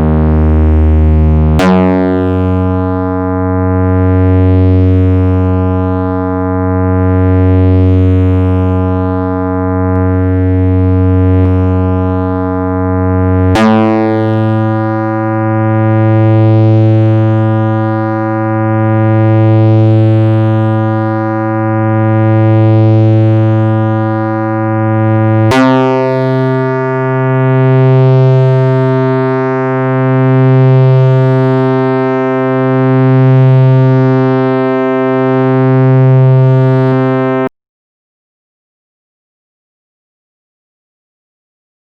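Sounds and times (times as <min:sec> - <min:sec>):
synthesizer bass drone: 0:00.0 - 0:37.5.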